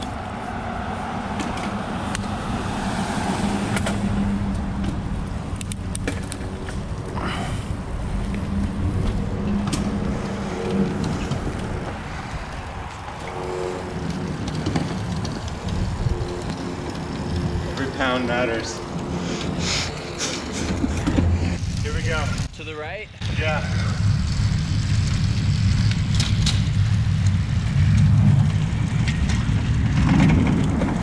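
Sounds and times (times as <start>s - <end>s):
trailer wheels rolling on asphalt: 0.0s - 31.0s.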